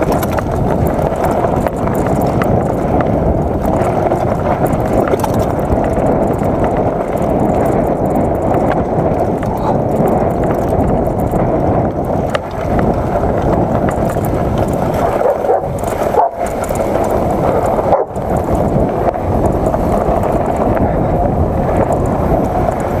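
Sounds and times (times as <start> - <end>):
bike rattling: 0.0 - 23.0
bike tyres rolling on dirt: 0.0 - 23.0
wind on microphone: 0.0 - 23.0.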